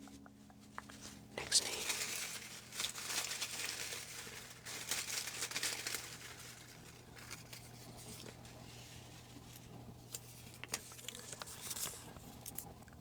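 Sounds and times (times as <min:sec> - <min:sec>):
paper slips crinkling: 0:00.6 - 0:13.0.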